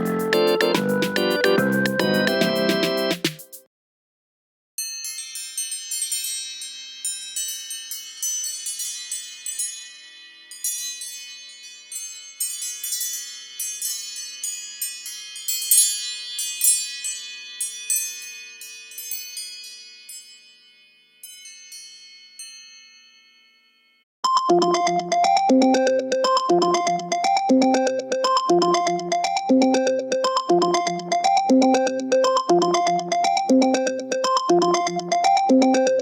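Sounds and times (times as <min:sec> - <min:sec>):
bell-like ringtone chimes: 0:04.8 - 0:36.0.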